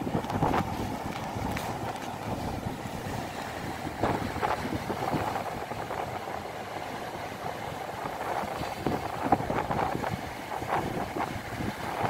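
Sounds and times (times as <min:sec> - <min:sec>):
surf washing over rocky shore: 0:00.0 - 0:12.0
wind buffeting microphone: 0:00.0 - 0:12.0.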